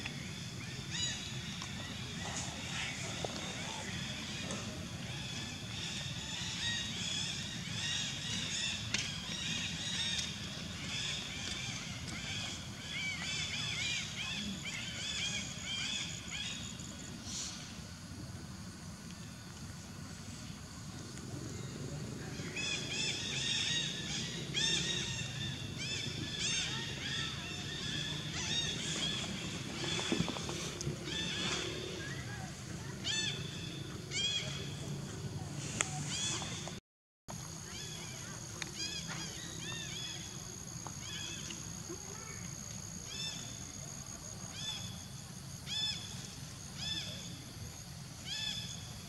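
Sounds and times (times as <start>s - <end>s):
low background noise: 0.0s - 49.0s.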